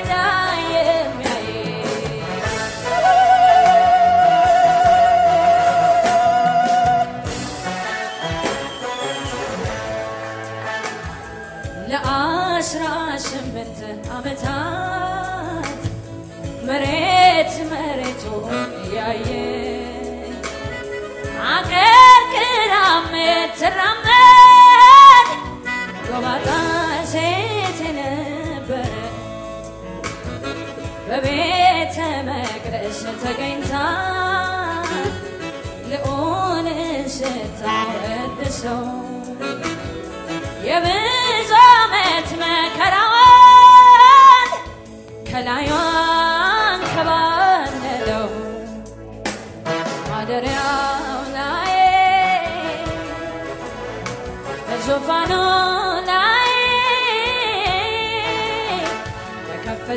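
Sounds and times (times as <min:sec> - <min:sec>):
woman singing gospel song: 0:00.0 - 0:49.0, 0:49.7 - 0:59.9
sustained backing chords: 0:00.0 - 0:59.9.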